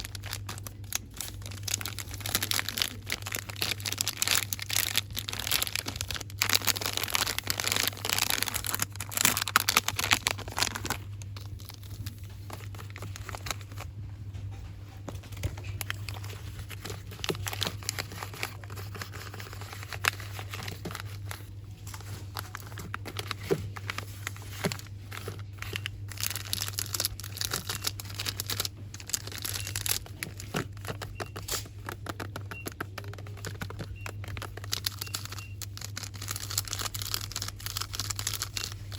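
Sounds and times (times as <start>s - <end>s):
rustling and crinkling packaging: 0.0s - 38.9s
steady low hum: 0.0s - 38.9s.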